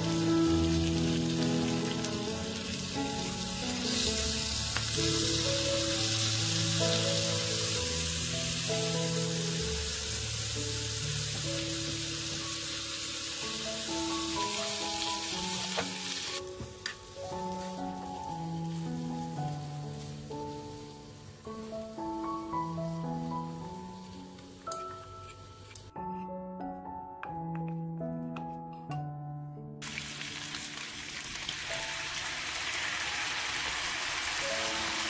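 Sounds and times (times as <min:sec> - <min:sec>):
meat sizzling in a pan: 0:00.0 - 0:24.6, 0:29.8 - 0:35.0.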